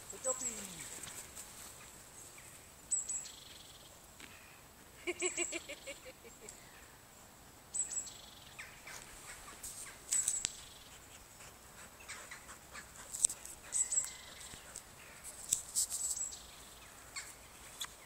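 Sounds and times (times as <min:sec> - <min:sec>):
small birds chirping: 0:00.0 - 0:04.6, 0:07.7 - 0:18.0.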